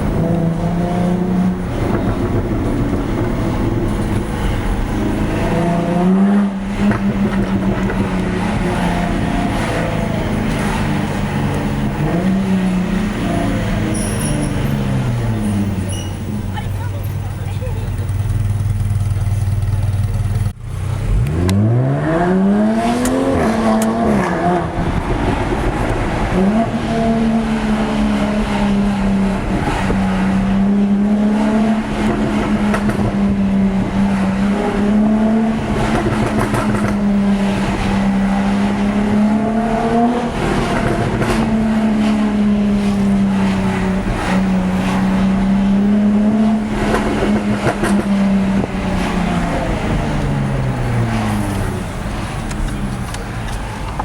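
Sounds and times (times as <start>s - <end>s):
car engine accelerating: 0.0s - 16.6s, 17.2s - 54.0s.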